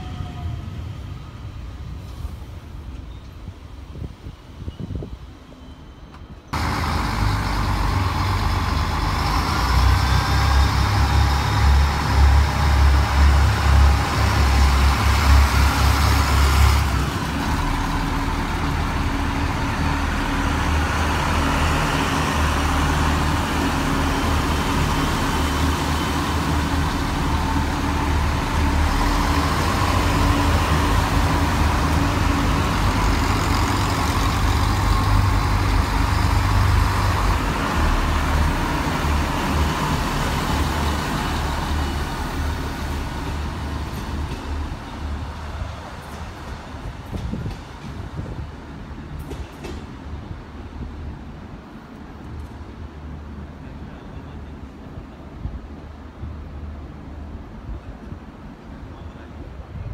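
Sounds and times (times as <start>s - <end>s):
train diesel engine rumbling: 0.0s - 59.9s.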